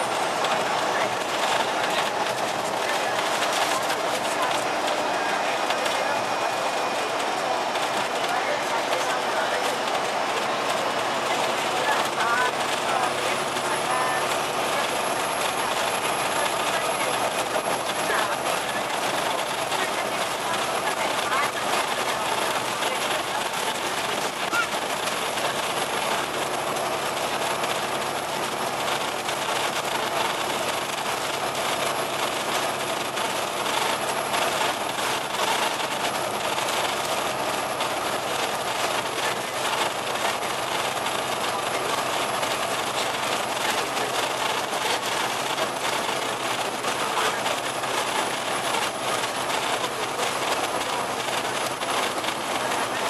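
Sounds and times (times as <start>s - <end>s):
bus diesel engine running: 0.0s - 53.0s
road noise rushing: 0.0s - 53.0s.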